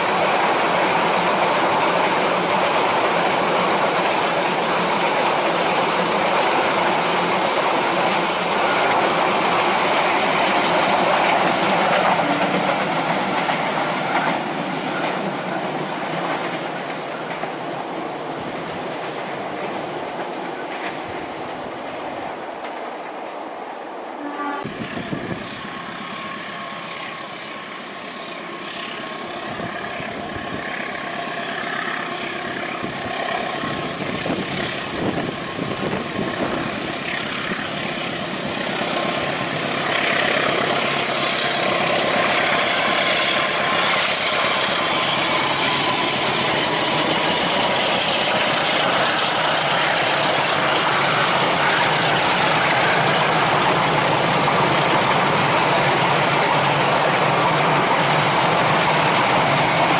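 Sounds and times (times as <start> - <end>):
diesel locomotive engine running: 0.0 - 59.9
train carriages rolling past: 0.0 - 59.9.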